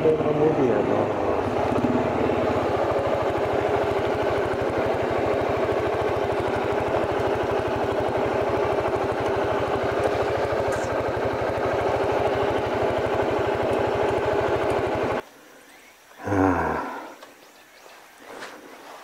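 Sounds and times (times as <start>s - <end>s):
scooter engine running at low revs: 0.0s - 15.2s.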